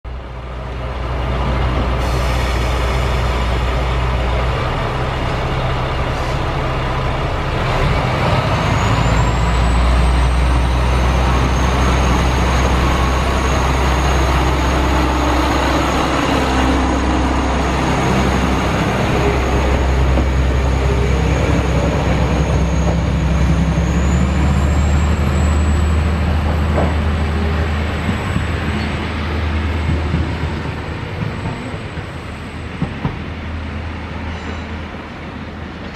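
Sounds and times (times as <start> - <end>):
diesel railcar engine drone: 0.1 - 35.9.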